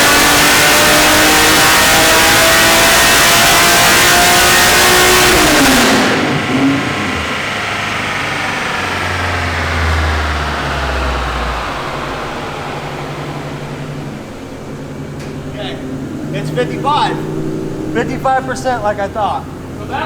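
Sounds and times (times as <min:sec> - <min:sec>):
car engine revving then coasting down: 0:00.0 - 0:20.0.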